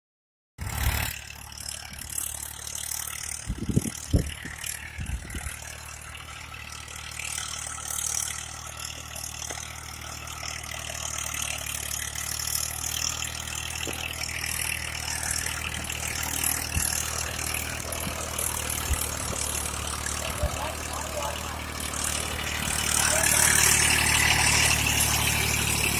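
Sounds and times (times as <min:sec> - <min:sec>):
tractor engine running: 0:00.6 - 0:25.9.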